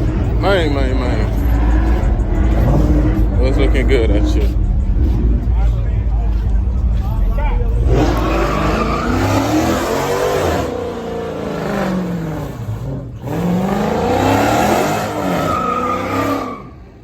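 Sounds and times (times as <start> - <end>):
car engine revving hard: 0.0 - 5.6, 7.7 - 17.0.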